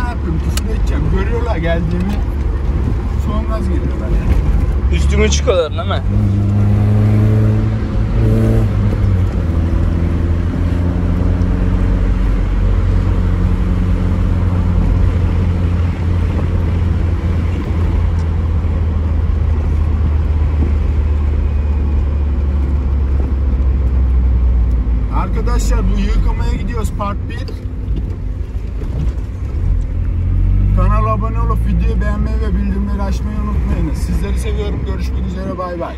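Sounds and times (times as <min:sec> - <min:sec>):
car engine droning in cabin: 0:00.0 - 0:35.9.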